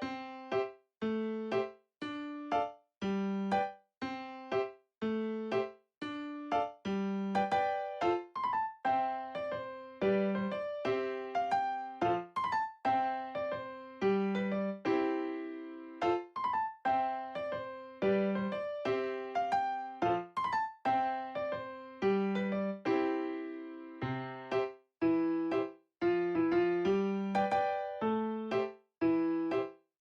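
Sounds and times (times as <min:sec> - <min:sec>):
electric piano melody: 0:00.0 - 0:29.8.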